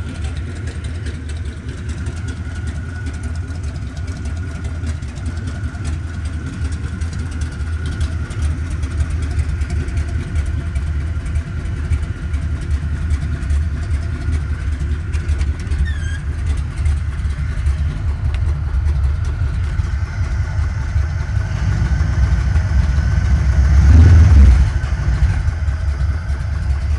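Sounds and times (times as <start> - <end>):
car engine idling and revving: 0.0 - 26.9
thin steady whine: 2.0 - 26.9.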